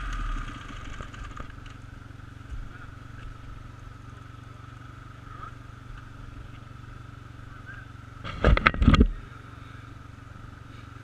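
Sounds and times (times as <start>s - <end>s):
muffled dirt bike engine: 0.0s - 11.0s.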